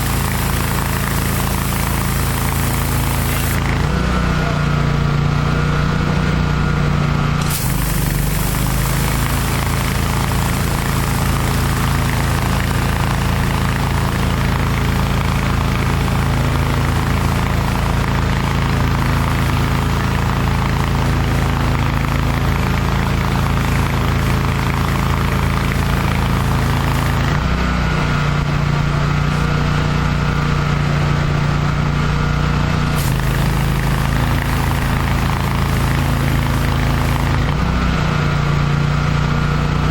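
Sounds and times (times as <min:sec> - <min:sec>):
high-pressure water spray hiss: 0:00.0 - 0:04.1, 0:07.4 - 0:27.7, 0:28.4 - 0:38.4
pressure washer engine running: 0:00.0 - 0:39.9.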